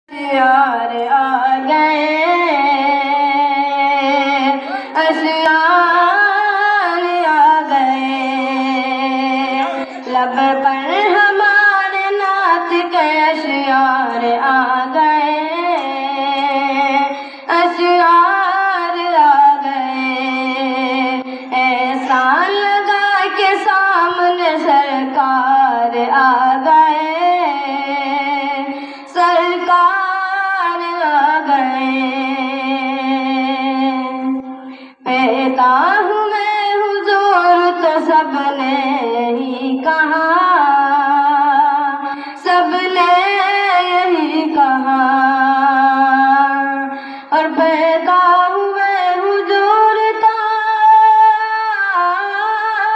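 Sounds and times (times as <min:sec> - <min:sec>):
boy singing unaccompanied: 0:00.1 - 0:52.9.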